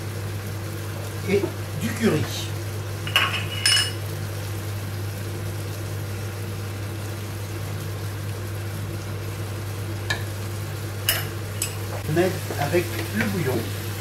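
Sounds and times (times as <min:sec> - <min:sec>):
pot simmering hum and hiss: 0:00.0 - 0:14.0.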